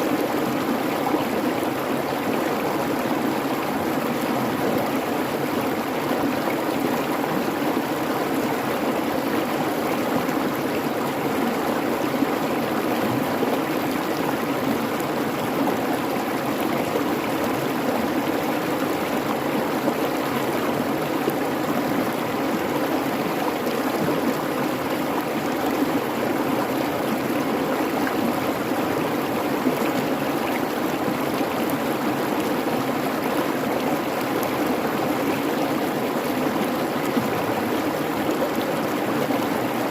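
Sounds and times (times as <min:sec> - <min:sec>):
creek water rushing over rocks: 0:00.0 - 0:39.9.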